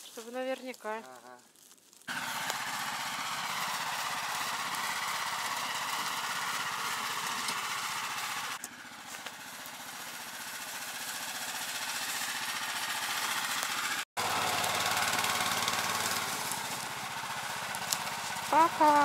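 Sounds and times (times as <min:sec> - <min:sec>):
motorized sled engine running: 0:02.1 - 0:19.0.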